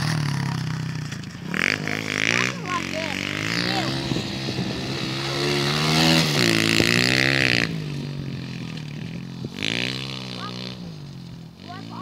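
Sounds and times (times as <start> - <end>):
small motorbike engine revving: 0.0 - 12.0.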